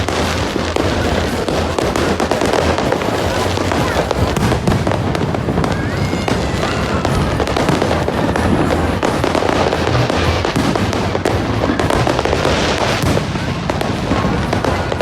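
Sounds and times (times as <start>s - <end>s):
firework whistle: 0.0s - 15.0s
fireworks bangs and crackles: 0.0s - 15.0s.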